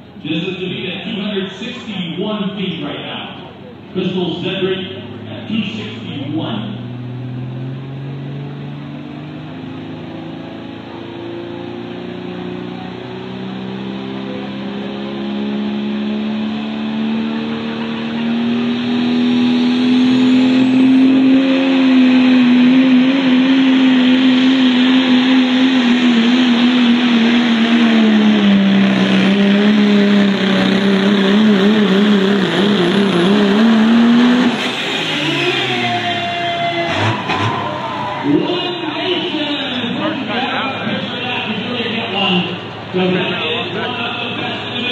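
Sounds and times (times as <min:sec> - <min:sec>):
diesel truck engine at full throttle: 0:00.0 - 0:44.9.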